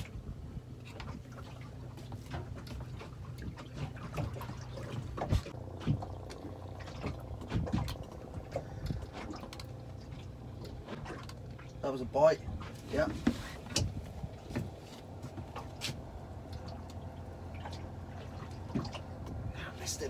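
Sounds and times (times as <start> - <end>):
steady low hum: 0.0 - 20.0
water slapping against boat hull: 0.0 - 20.0.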